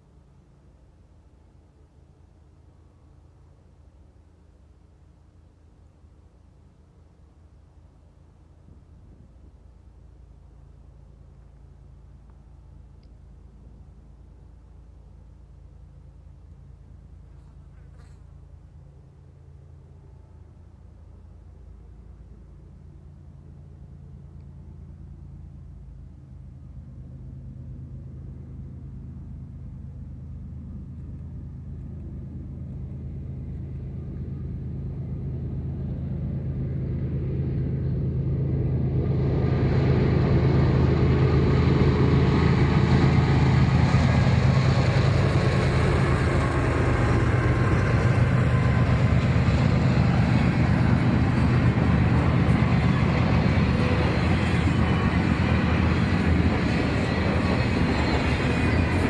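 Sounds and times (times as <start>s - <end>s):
train engine drone: 0.0s - 59.0s
train rolling past: 10.0s - 59.0s.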